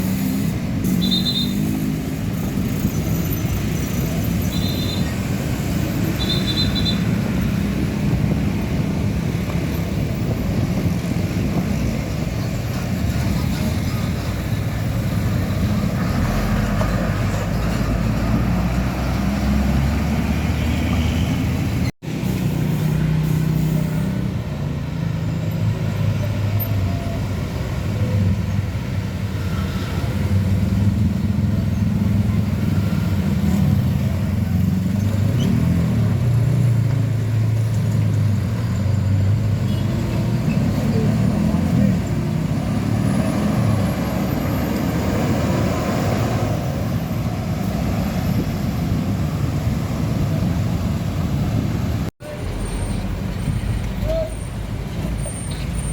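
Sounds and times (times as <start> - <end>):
diesel trucks passing: 0.0 - 55.9.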